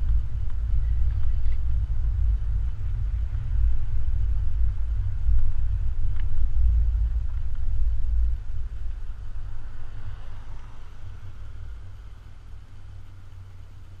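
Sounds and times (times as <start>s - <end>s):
vehicle rumble driving slowly: 0.0s - 14.0s.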